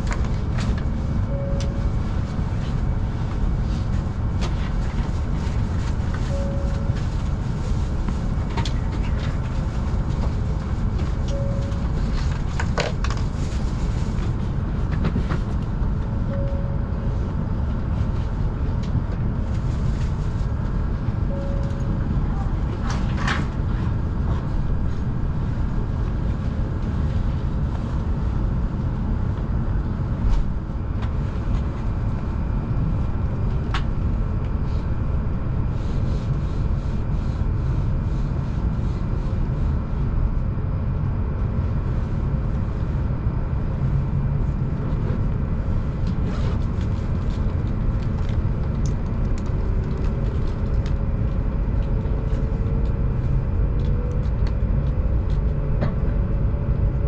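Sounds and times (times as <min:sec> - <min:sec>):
train running at speed: 0:00.0 - 0:57.0.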